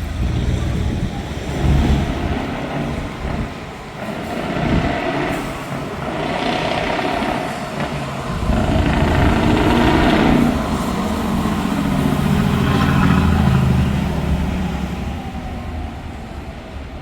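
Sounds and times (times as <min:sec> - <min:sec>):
truck engine revving: 0:00.0 - 0:15.4.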